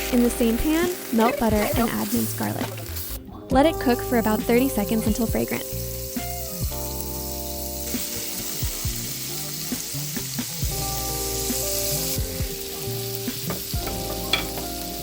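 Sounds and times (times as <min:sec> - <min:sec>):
garlic sizzling in butter: 0:00.0 - 0:03.2, 0:03.8 - 0:15.0
background music: 0:00.0 - 0:15.0.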